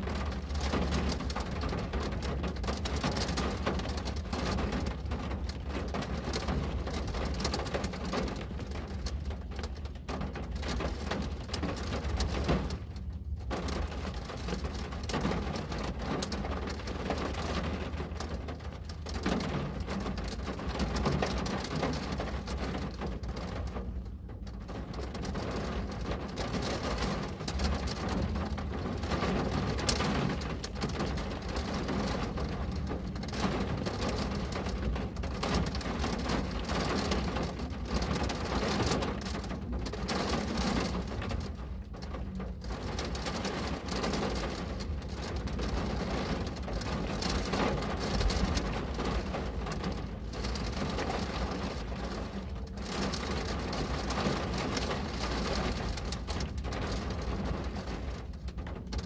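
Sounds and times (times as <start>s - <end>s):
constant low rumble: 0.0s - 59.0s
rain pattering on a window: 0.0s - 59.0s.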